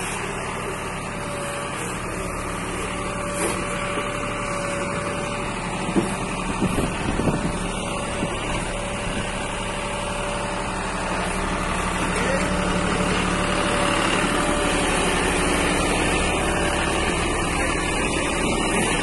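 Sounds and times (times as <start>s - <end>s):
hydraulic whine: 0.0s - 19.0s
tractor diesel engine running: 0.0s - 19.0s.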